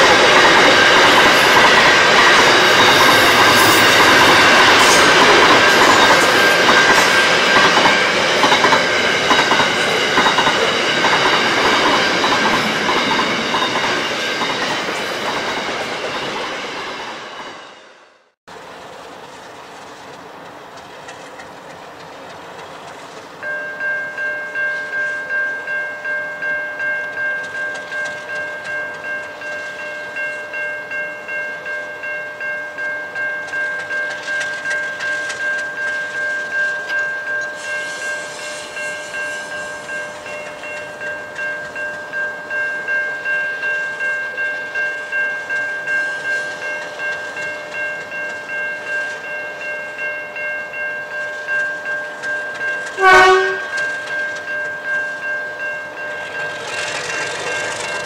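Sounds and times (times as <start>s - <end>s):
level crossing bell ringing: 0.0s - 16.8s, 23.4s - 58.0s.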